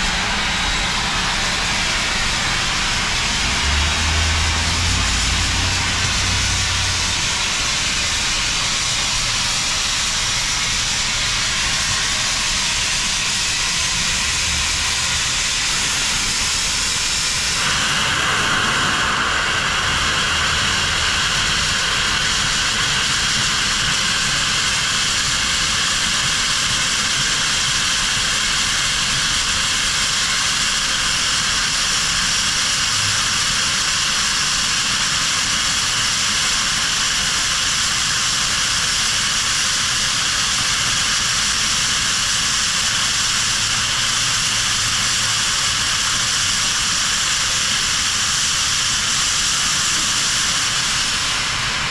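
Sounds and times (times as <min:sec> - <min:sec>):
steam locomotive venting steam: 0:00.0 - 0:51.9.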